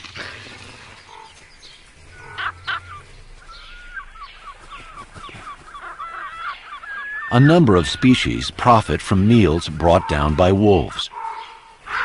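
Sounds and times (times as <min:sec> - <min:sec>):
bird calling: 0:00.0 - 0:12.0
high yelping bird notes: 0:01.0 - 0:12.0.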